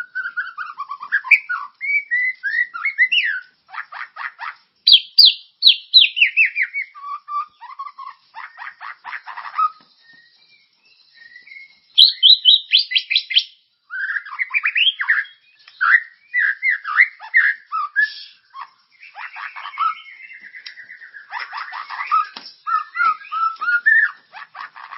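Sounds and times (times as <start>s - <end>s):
songbird whistling and warbling: 0.0s - 24.9s.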